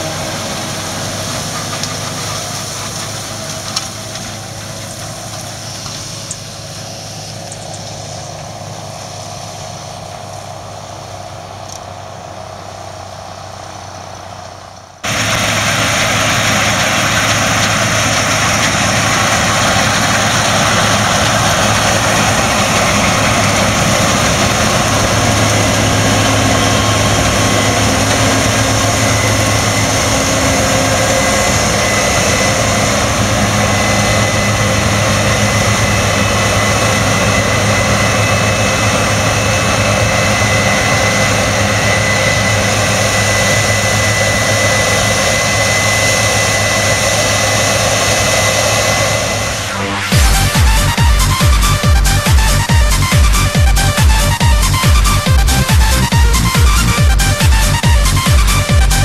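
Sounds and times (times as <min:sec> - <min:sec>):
combine harvester engine drone: 0:00.0 - 0:59.0
faint high machinery whine: 0:00.0 - 0:59.0.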